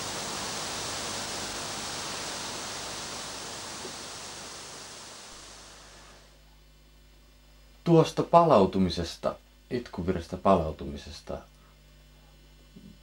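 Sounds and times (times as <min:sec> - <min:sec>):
outdoor noise hiss: 0:00.0 - 0:13.0.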